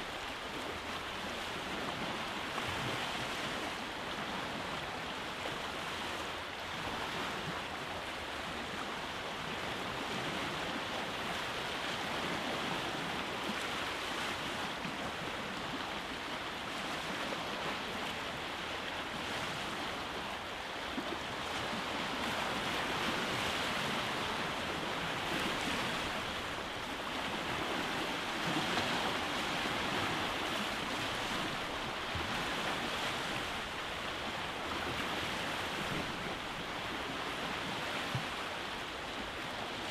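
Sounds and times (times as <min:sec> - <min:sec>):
waves breaking on rocky beach: 0:00.0 - 0:39.9.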